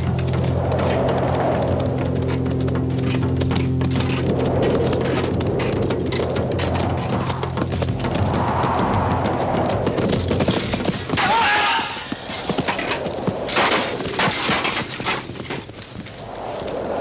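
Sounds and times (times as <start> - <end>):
horse hooves clattering: 0.0 - 17.0.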